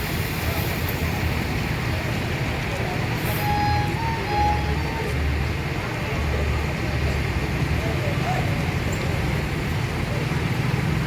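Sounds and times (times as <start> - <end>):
bus engines rumbling: 0.0 - 11.0
road traffic: 0.0 - 11.0.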